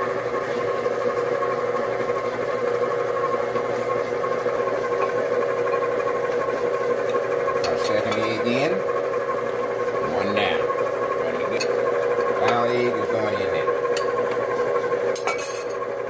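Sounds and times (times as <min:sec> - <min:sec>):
stand mixer motor whine: 0:00.0 - 0:16.0.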